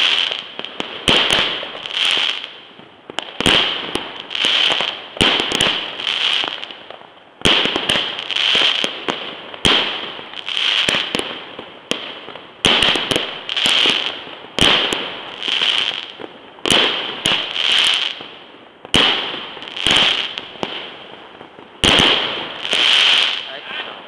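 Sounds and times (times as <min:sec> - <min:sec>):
fireworks bangs: 0:00.0 - 0:24.0
hissing crackle of fireworks: 0:00.0 - 0:24.0.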